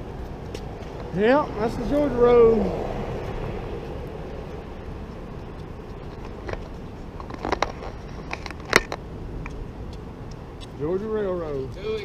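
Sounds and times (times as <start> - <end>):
street background noise: 0.0 - 12.0.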